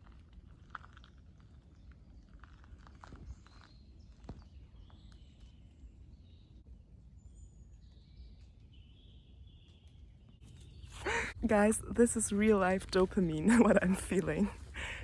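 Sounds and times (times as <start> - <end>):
low steady background rumble: 0.0 - 15.0
faint birds chirping: 0.6 - 15.0.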